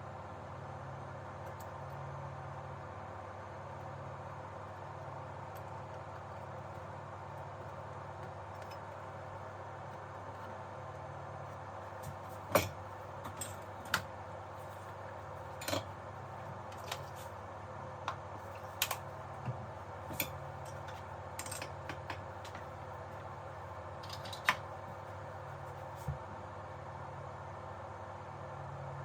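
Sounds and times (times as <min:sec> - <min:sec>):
background hiss and hum: 0:00.0 - 0:29.0.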